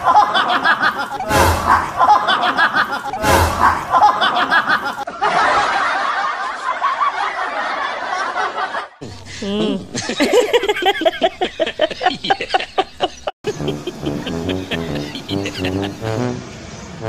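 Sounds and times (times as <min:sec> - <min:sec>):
people laughing: 0:00.0 - 0:16.3.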